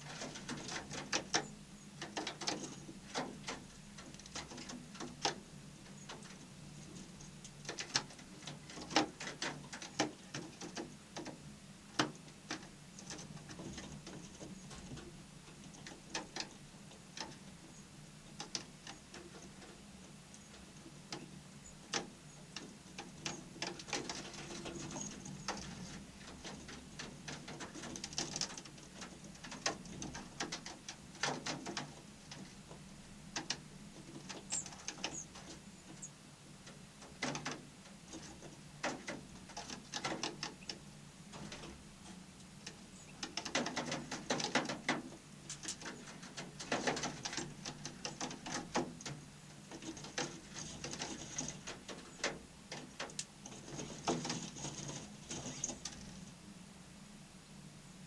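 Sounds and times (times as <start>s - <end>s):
small birds pecking and scratching: 0.0s - 56.4s.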